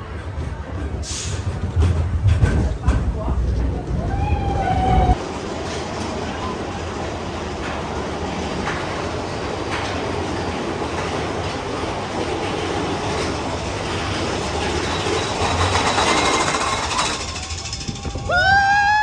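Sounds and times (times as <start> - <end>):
roller coaster cars rumbling on track: 0.0 - 19.0.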